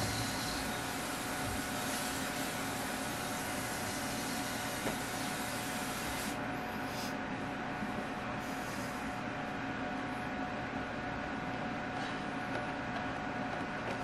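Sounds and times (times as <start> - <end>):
electric fan whirring: 0.0 - 14.0.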